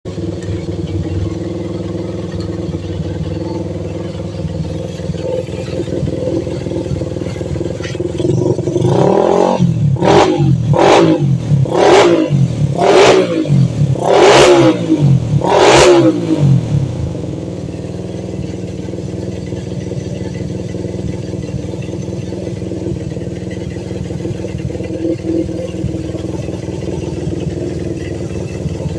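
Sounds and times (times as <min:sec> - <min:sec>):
motorcycle engine idling and revving: 0:00.0 - 0:28.9.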